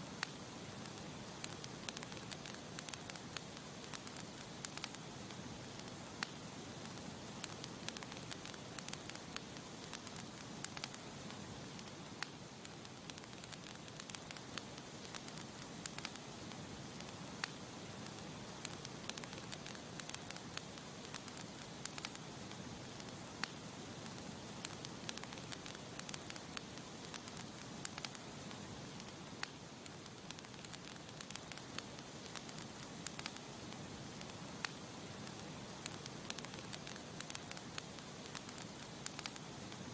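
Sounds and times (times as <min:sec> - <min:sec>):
campfire hissing: 0:00.0 - 0:39.9
wood crackling and popping: 0:00.0 - 0:39.9.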